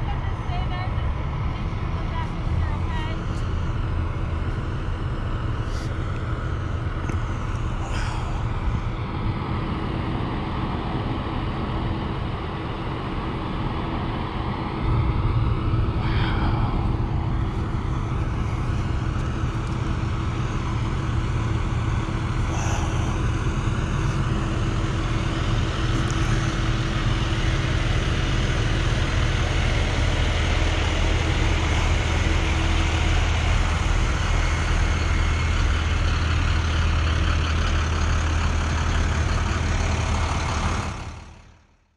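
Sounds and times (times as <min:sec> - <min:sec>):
fire engine idling: 0:00.0 - 0:41.9
vehicle engines idling: 0:00.0 - 0:41.9.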